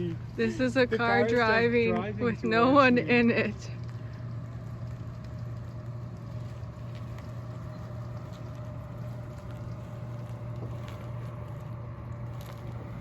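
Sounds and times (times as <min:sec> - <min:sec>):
electric car humming: 0:00.0 - 0:13.0.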